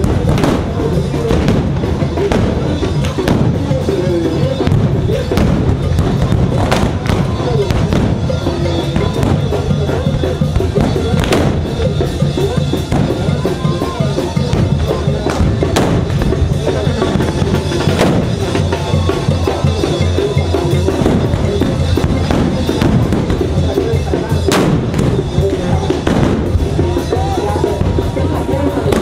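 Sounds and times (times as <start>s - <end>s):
band drums and music: 0.0s - 29.0s
crowd noise: 0.0s - 29.0s.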